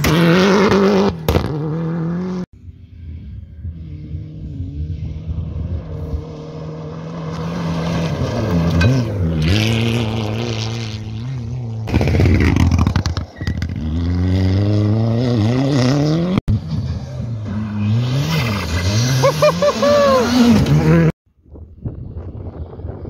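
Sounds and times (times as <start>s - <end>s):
rally car engine: 0.0s - 21.2s.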